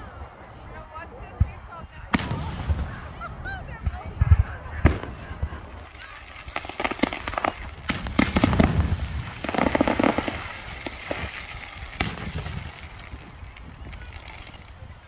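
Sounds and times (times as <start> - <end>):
fireworks crackling: 0.0 - 15.0
fireworks bangs: 0.2 - 15.0.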